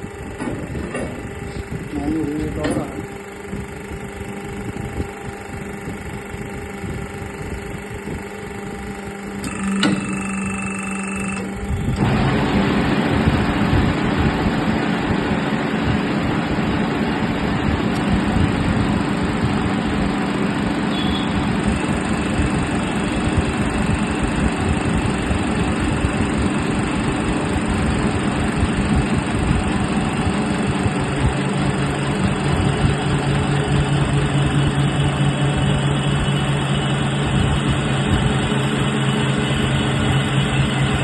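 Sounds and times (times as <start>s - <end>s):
drilling machine running: 0.0s - 41.0s.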